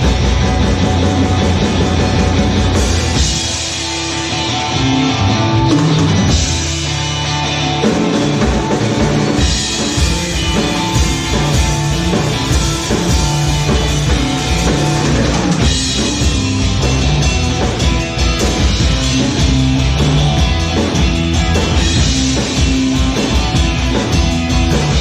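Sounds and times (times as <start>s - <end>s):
drum kit beat: 0.0s - 25.0s
psychedelic rock music: 0.0s - 25.0s.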